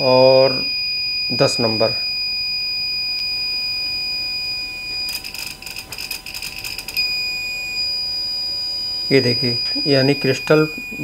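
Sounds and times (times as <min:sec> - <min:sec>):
continuous high-pitched beep: 0:00.0 - 0:11.0.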